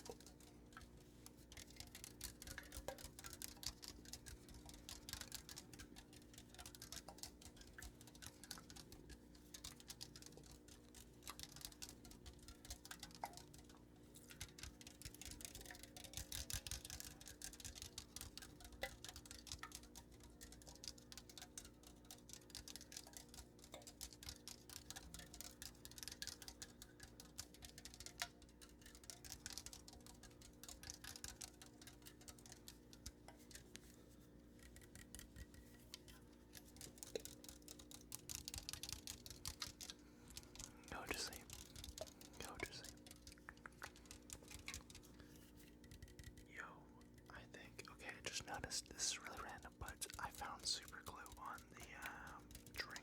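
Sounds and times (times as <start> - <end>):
faint steady hum: 0.0 - 53.0
light fast tapping: 0.0 - 53.0.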